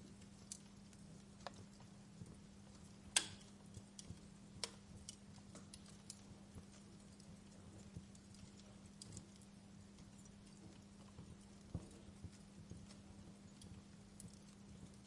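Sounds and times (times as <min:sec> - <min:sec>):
faint low hum: 0:00.0 - 0:15.0
wood fire crackling: 0:00.0 - 0:15.0.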